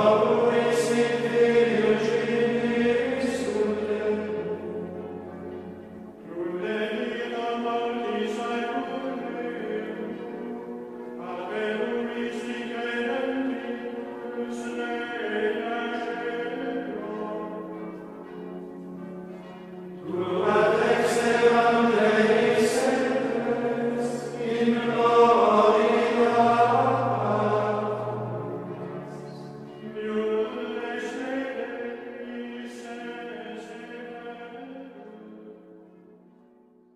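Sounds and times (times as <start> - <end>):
choir singing chant-like music: 0.0 - 35.7.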